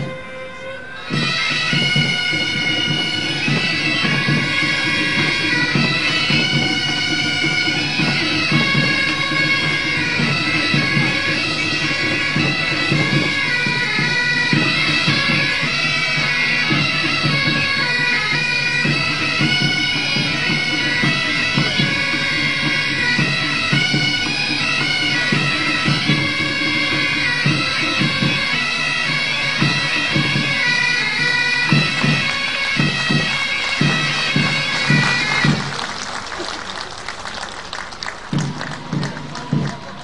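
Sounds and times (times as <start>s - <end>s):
drum beats: 0.0s - 40.0s
reed pipes melody: 0.0s - 40.0s.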